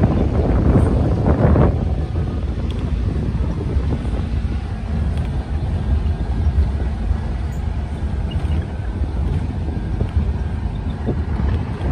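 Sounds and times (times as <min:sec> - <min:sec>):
vehicle on gravel road: 0:00.0 - 0:11.9
wind buffeting microphone: 0:00.0 - 0:11.9.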